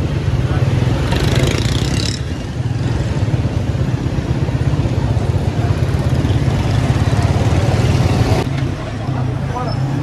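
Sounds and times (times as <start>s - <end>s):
light street traffic: 0.0s - 10.0s.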